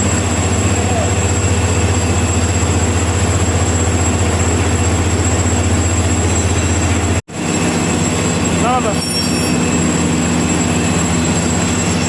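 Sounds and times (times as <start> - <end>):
air compressor humming and whining: 0.0 - 12.0.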